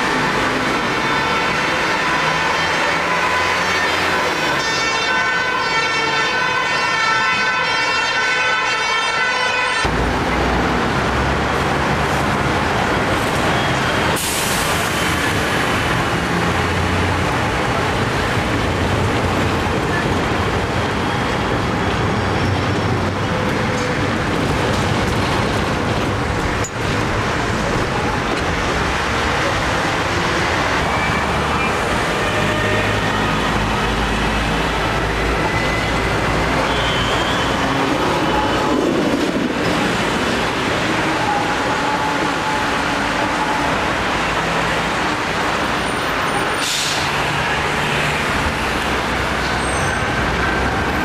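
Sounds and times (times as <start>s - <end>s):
tram rumbling and rattling: 0.0s - 8.1s, 9.1s - 51.0s
road traffic: 0.0s - 51.0s.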